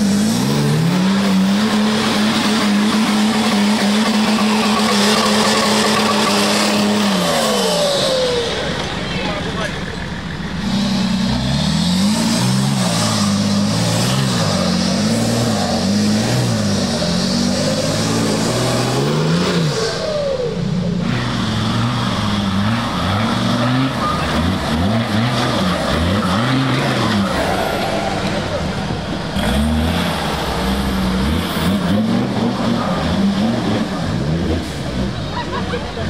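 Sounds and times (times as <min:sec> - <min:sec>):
engine revving: 0:00.0 - 0:36.0.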